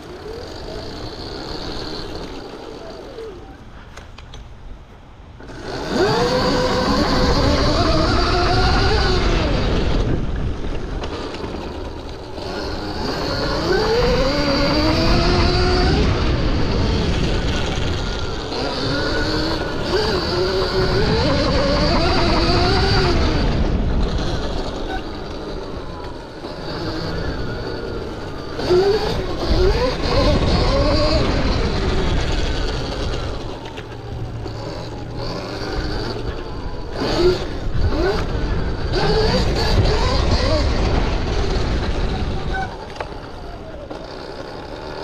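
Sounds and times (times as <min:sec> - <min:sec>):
electric motor whining: 0:00.0 - 0:03.8, 0:05.4 - 0:45.0.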